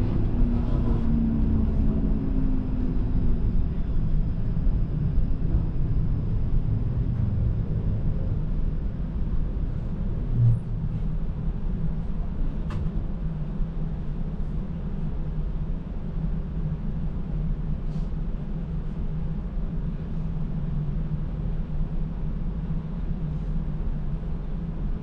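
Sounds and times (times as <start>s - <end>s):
streetcar rumbling: 0.0s - 25.0s.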